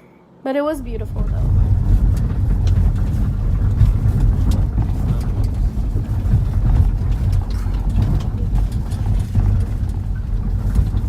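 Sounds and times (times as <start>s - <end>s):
van rumbling along road: 0.7s - 11.0s.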